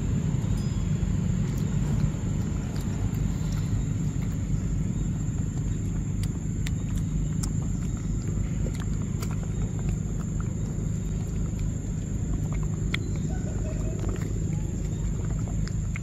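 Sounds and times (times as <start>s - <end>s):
low rumble: 0.0s - 16.0s
sharp chewing clicks: 0.0s - 16.0s.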